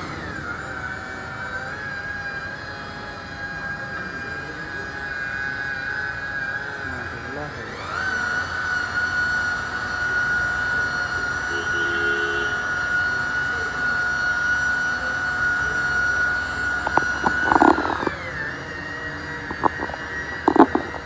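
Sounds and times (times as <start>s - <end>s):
rotary polisher whine: 0.0s - 21.0s.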